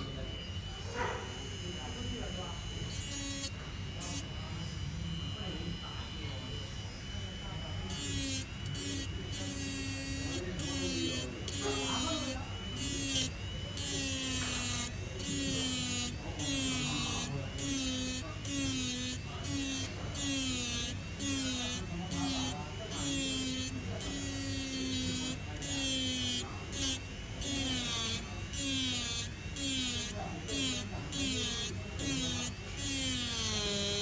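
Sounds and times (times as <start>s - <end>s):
grinding pen buzzing on metal: 0.0s - 34.0s.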